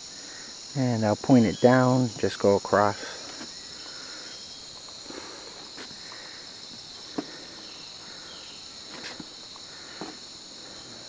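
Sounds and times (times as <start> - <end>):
chorus of insects: 0.0 - 11.0.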